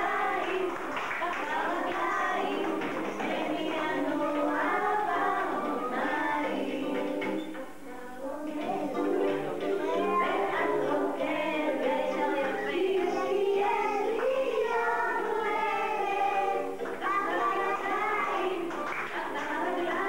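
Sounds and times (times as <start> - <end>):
song with singing voices: 0.0 - 20.0.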